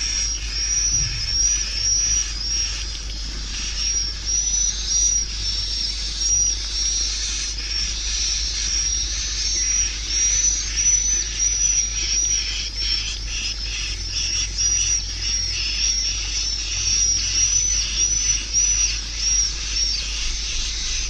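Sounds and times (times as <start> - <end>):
faint bird twittering: 0.0 - 21.0.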